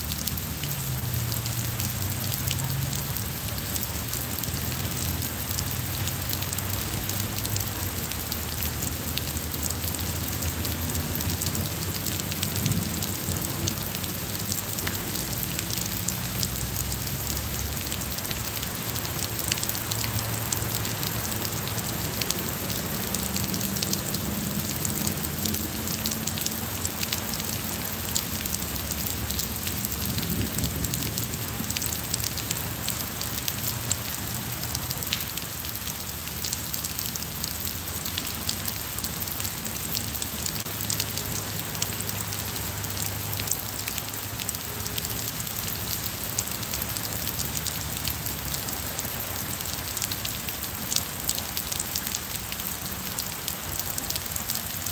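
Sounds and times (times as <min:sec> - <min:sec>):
rain falling on paving: 0:00.0 - 0:54.9.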